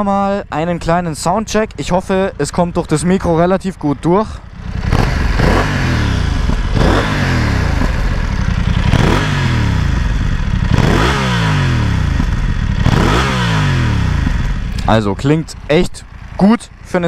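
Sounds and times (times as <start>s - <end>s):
motorcycle engine revving: 1.2s - 17.0s.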